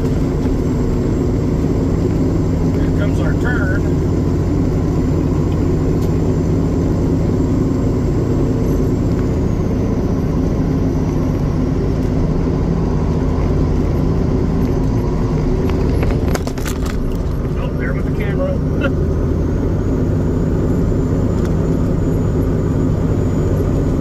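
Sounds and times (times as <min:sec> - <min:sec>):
truck diesel engine pulling hard: 0:00.0 - 0:24.0.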